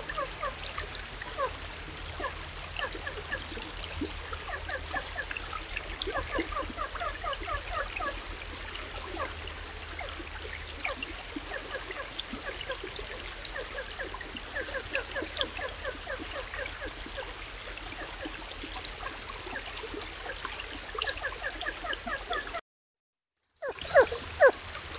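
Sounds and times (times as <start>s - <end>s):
stream running over stones: 0.0s - 22.6s, 23.7s - 24.9s.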